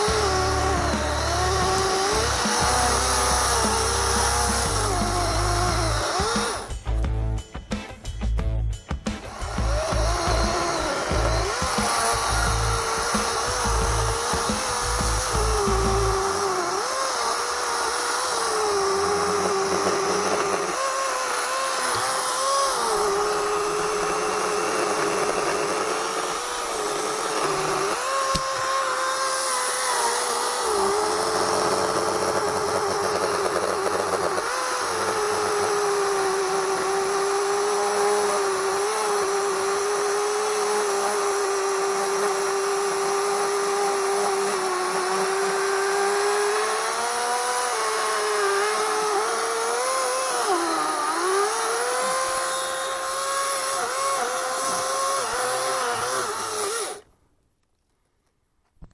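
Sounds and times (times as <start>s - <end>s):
chainsaw cutting wood: 0.0s - 8.2s, 8.8s - 57.2s.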